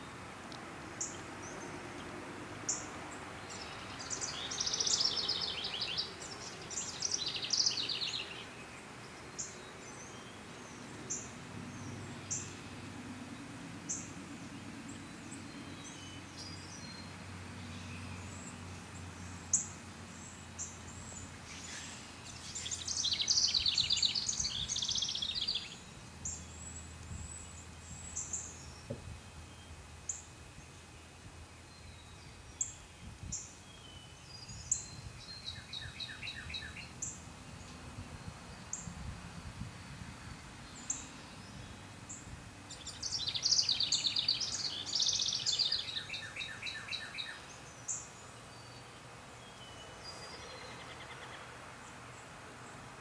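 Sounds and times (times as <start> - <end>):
low outdoor hum: 0.0 - 53.0
songbirds trilling: 0.0 - 53.0.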